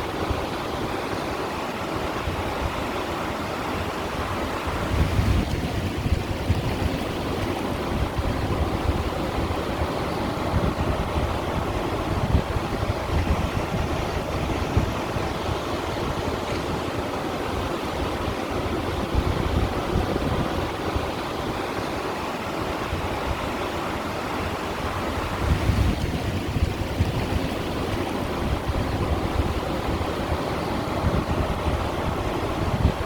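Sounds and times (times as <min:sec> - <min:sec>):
wind rumble on microphone: 0:00.0 - 0:33.0
waves washing against stones: 0:03.0 - 0:33.0.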